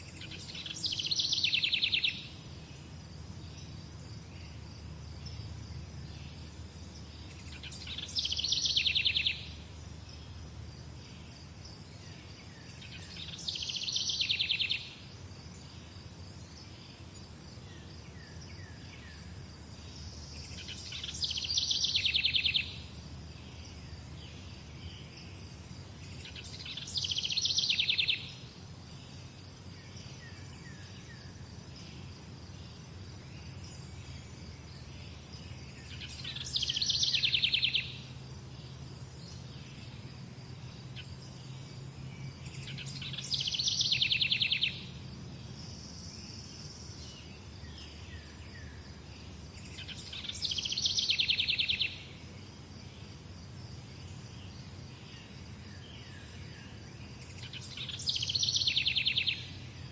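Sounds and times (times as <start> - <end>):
faint bird chirps: 0.0 - 10.4, 11.0 - 53.2, 53.8 - 59.9.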